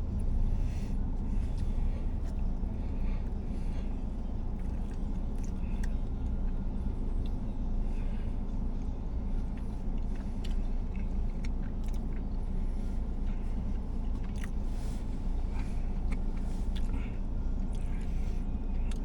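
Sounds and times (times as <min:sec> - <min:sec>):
low rumble: 0:00.0 - 0:19.0
person chewing food: 0:00.0 - 0:19.0.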